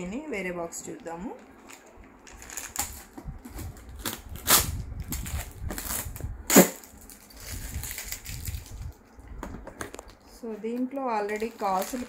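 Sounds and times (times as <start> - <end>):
plastic packets rustling: 1.3 - 9.2, 9.8 - 12.0.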